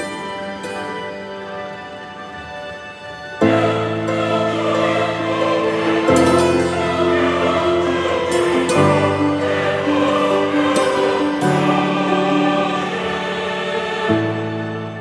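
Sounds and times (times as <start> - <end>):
choir-like voices holding chords: 0.0 - 15.0.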